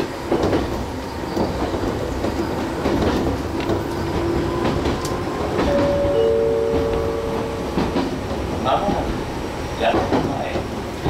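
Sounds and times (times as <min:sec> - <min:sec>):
electric train rumbling: 0:00.0 - 0:11.0
wheels clicking over rails: 0:00.0 - 0:11.0.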